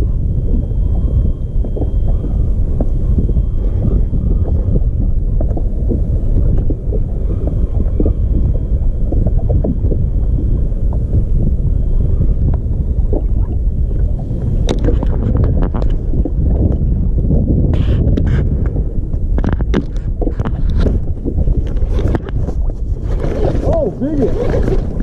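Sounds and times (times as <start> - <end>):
water slapping against hull: 0.0 - 25.0
wind buffeting microphone: 0.0 - 25.0.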